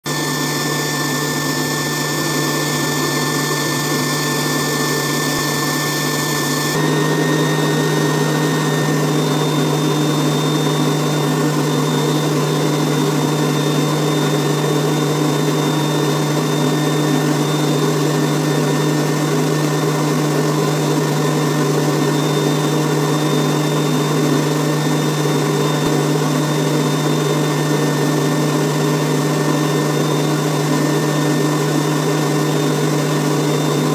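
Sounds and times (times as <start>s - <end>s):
air blower motor hum: 0.0s - 33.9s.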